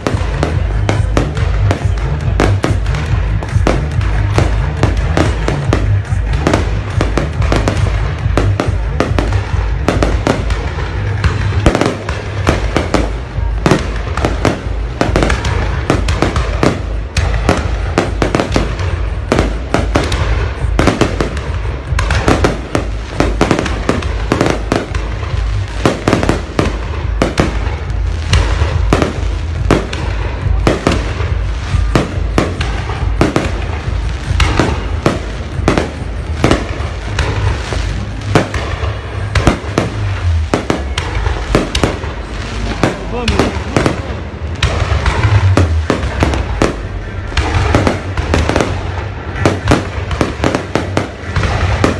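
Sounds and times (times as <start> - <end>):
fireworks bangs and crackling: 0.0 - 51.9
heavy low rumble: 0.0 - 51.9.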